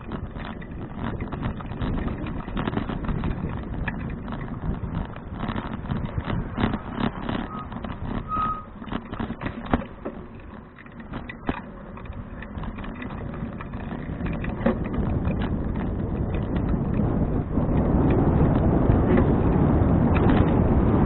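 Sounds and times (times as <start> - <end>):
bicycle clicks and rattles: 0.0 - 21.0
wind rushing on microphone: 0.0 - 21.0.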